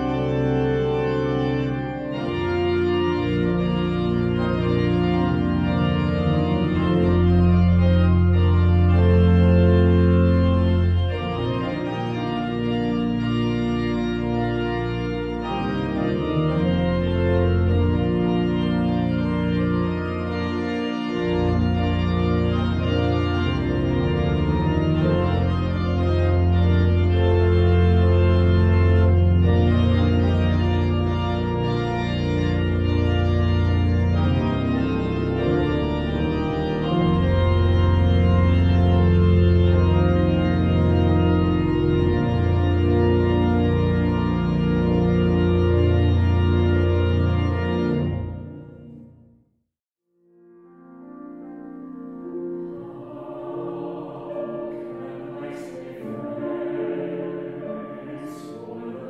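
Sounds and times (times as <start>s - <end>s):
church organ chords: 0.0s - 49.5s, 50.2s - 59.0s.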